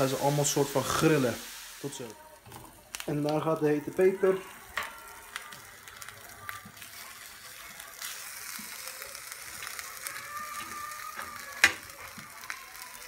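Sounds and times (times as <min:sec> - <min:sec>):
meat sizzling in a grill pan: 0:00.0 - 0:13.0.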